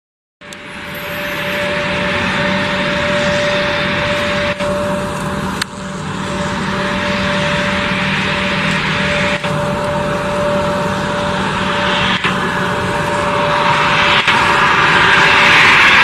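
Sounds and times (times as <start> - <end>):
jet engines whining: 0.4 - 16.0
broad rushing noise: 0.7 - 16.0.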